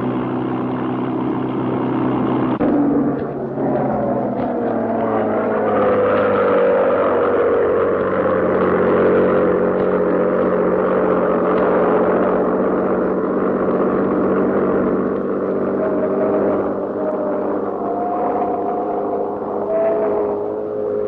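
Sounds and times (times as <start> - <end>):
higher tone: 0.0 - 21.0
propeller plane engine droning: 0.0 - 21.0.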